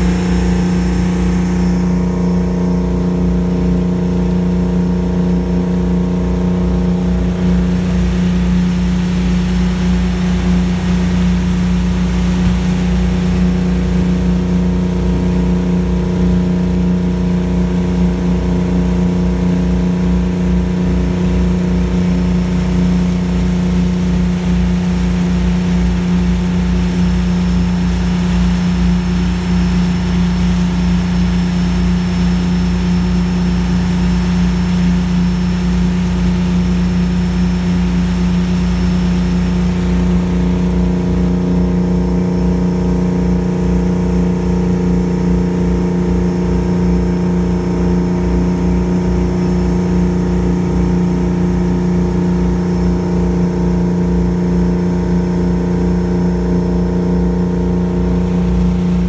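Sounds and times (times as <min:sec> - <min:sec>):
boat engine hum: 0:00.0 - 0:59.0
water rushing alongside boat: 0:00.0 - 0:59.0.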